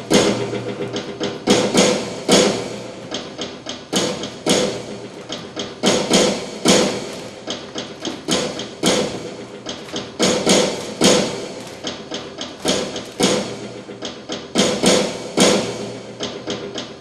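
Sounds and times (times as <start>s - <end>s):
hammer-like knocking: 0.0s - 17.0s.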